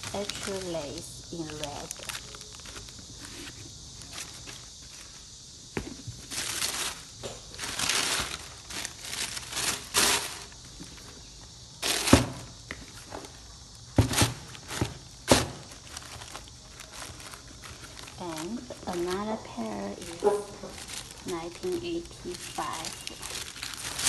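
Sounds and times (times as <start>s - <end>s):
packing paper rustling: 0.0s - 5.3s, 6.1s - 11.2s, 11.8s - 13.2s, 14.0s - 24.0s.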